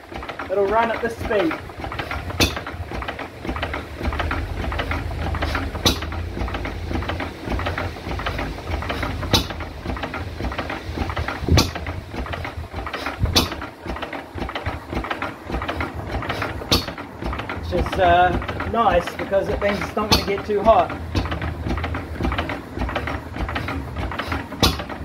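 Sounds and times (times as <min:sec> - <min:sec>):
stationary engine clattering: 0:00.0 - 0:25.0.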